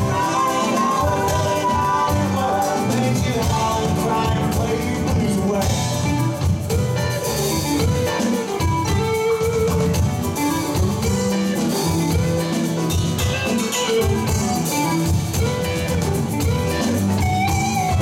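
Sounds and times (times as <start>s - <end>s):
bass guitar: 0.0s - 18.0s
drums: 0.0s - 18.0s
electric guitar: 0.0s - 18.0s
keyboard: 0.0s - 18.0s.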